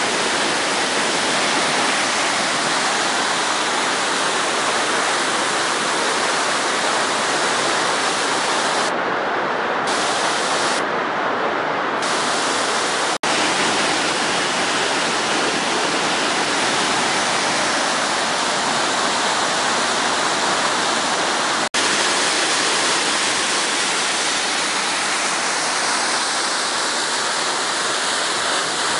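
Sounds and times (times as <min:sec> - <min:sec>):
waterfall roaring: 0:00.0 - 0:28.9.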